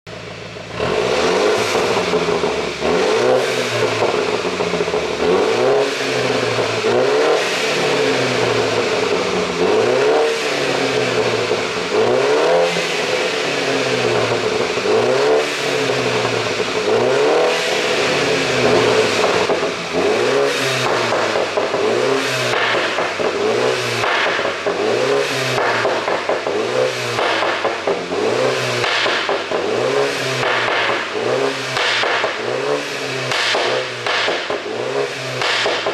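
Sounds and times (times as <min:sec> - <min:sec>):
car engine revving: 0:00.1 - 0:35.9
exhaust pops and crackles: 0:00.1 - 0:35.9.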